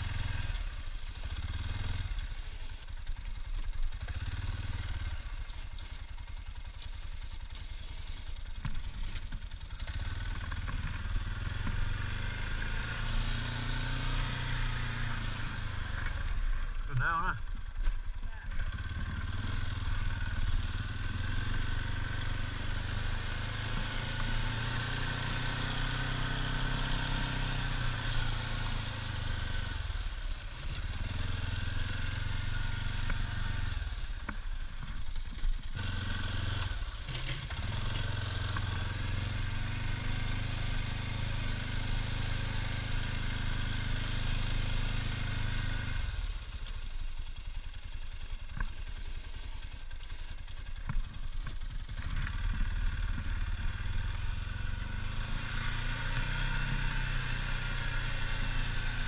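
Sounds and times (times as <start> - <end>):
atv engine running under load: 0.0 - 59.0.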